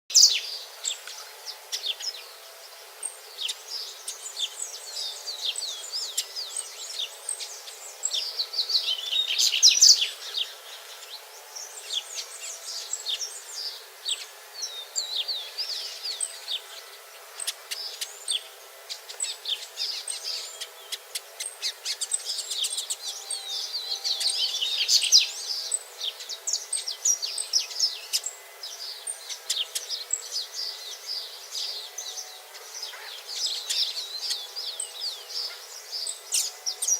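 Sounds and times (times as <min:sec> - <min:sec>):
birds chirping and calling: 0:00.1 - 0:36.9.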